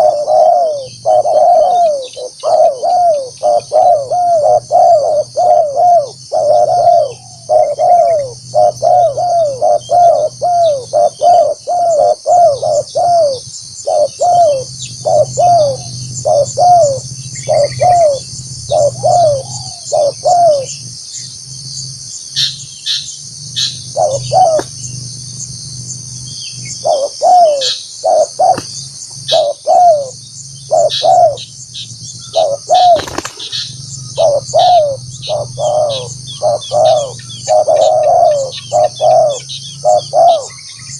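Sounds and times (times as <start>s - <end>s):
dove cooing: 0.0s - 21.0s, 22.4s - 40.9s.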